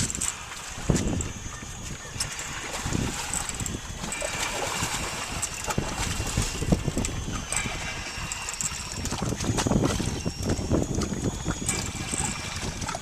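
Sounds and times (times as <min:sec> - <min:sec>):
water lapping against boat hull: 0:00.0 - 0:13.0
wind buffeting microphone: 0:00.0 - 0:13.0.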